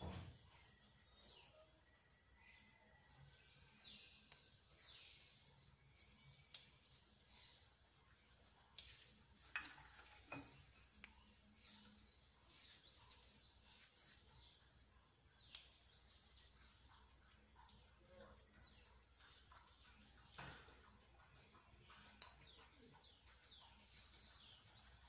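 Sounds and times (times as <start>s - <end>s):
faint bird chirping: 0.0s - 25.0s.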